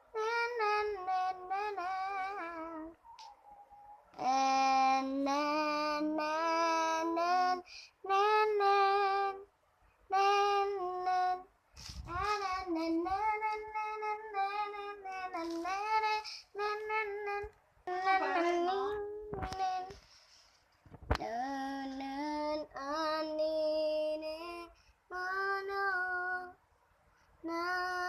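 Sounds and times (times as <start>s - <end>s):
girl singing: 0.0s - 3.0s, 4.1s - 9.5s, 10.1s - 20.1s, 21.1s - 26.6s, 27.4s - 28.0s.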